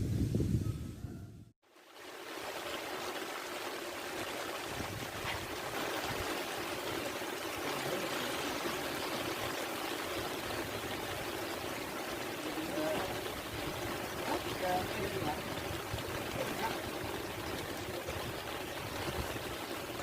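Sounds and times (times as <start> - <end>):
rain falling on water: 1.6 - 20.0.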